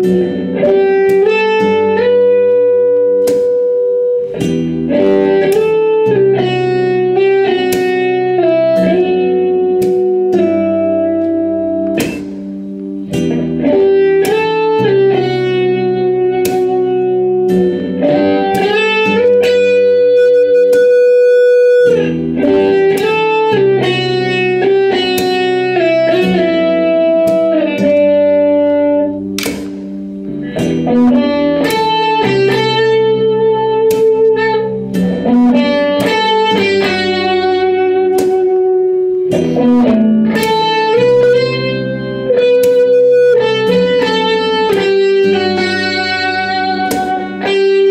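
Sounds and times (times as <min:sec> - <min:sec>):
instrumental guitar music: 0:00.0 - 0:47.9.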